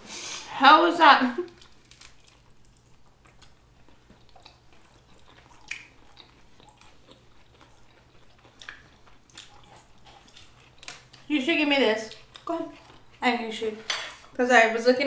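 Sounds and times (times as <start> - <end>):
people chewing: 1.4 - 14.4.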